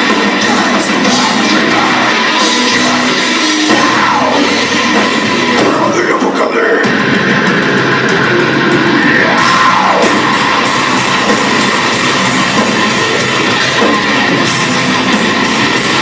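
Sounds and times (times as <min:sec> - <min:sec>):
distorted electric guitars: 0:00.0 - 0:16.0
drums: 0:00.0 - 0:16.0.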